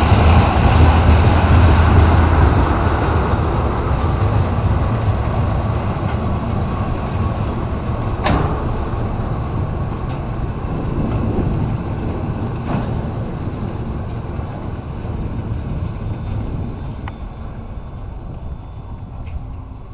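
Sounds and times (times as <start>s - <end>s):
freight train cars rumbling: 0.0s - 19.9s.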